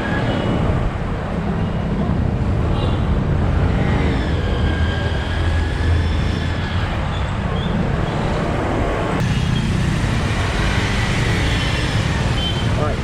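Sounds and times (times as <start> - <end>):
busy street traffic: 0.0 - 13.0.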